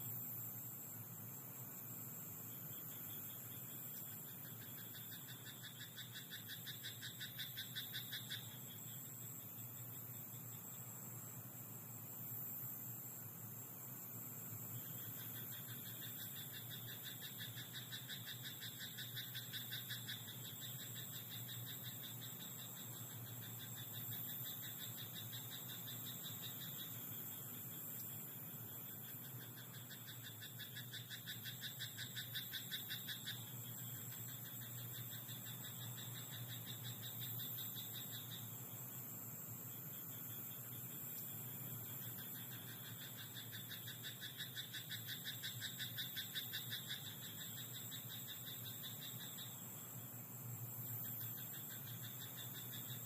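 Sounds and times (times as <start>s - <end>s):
frogs croaking in chorus: 2.3s - 11.4s, 13.8s - 53.0s.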